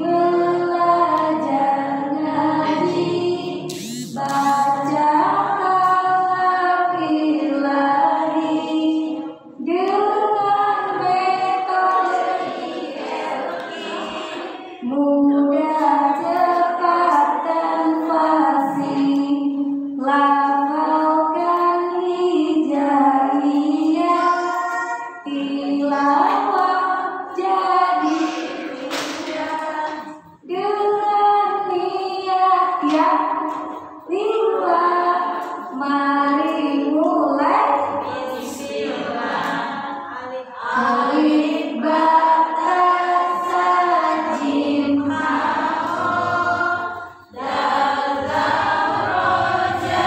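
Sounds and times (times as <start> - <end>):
woman singing into microphone: 0.0 - 12.3, 13.6 - 50.0.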